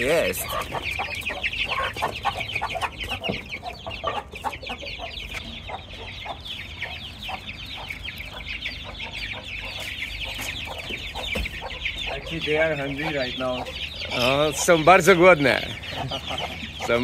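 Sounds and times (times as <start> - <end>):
hen clucking: 0.0 - 17.0
young chickens peeping: 0.0 - 17.0.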